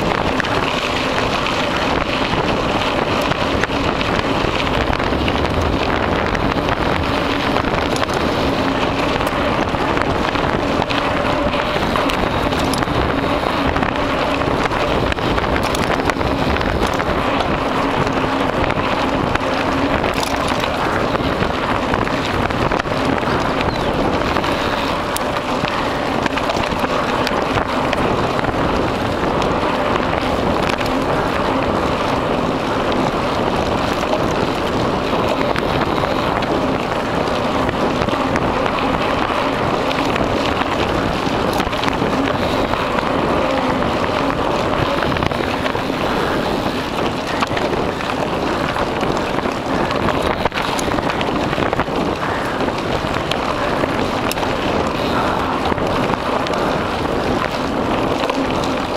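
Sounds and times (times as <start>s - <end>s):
bike rattles and clicks: 0.0s - 58.9s
bike tyres rolling on dirt: 0.0s - 58.9s
wind on microphone: 0.0s - 58.9s.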